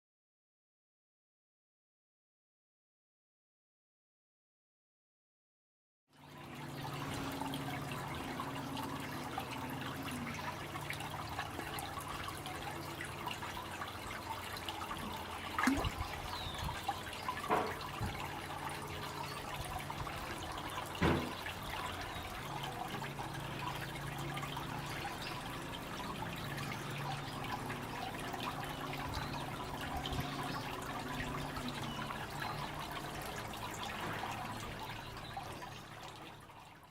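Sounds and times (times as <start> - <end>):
water trickling and splashing: 6.1 - 36.9.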